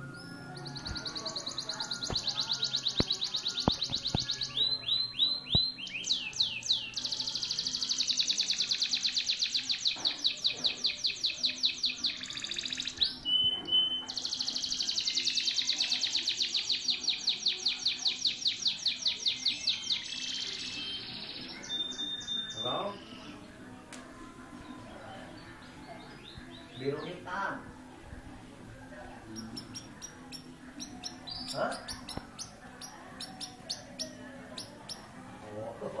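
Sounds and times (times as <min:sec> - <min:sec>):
canary singing trills: 0:00.0 - 0:23.6, 0:24.6 - 0:27.8, 0:29.0 - 0:36.0.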